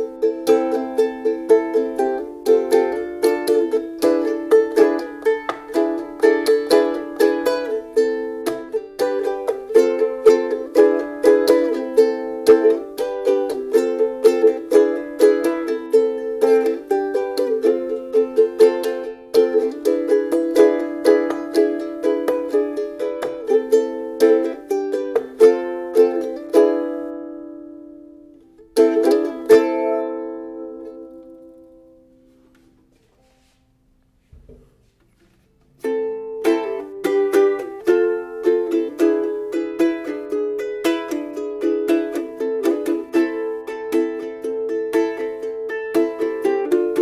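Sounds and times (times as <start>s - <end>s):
ukulele strummed chords: 0.0s - 33.6s, 35.7s - 47.0s.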